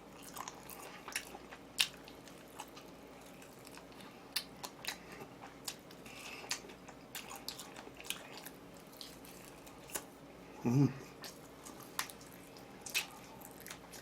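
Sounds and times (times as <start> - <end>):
chewing and biting: 0.0 - 10.2, 11.1 - 14.0.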